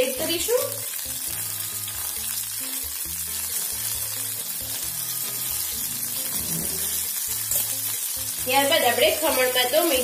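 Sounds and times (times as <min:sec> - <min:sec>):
oil sizzling and bubbling: 0:00.0 - 0:10.0
background music with bass: 0:01.1 - 0:10.0.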